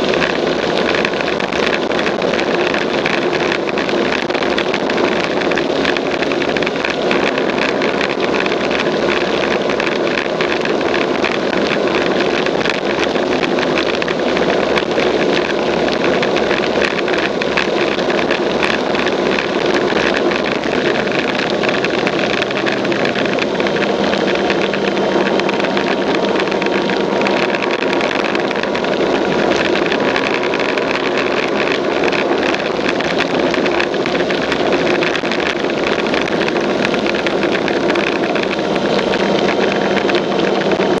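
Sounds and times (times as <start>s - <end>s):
motorbike engine running: 0.0s - 41.0s.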